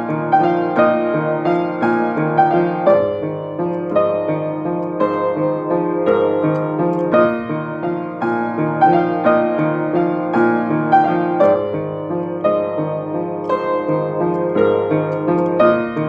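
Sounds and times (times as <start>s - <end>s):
upright piano playing: 0.0s - 16.0s.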